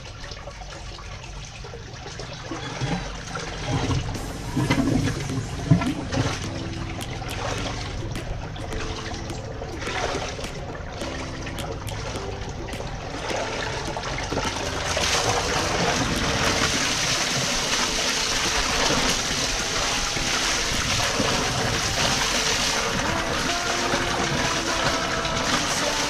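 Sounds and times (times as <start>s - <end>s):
water gushing from hose: 0.0s - 26.0s
water splashing into drain pit: 0.0s - 26.0s.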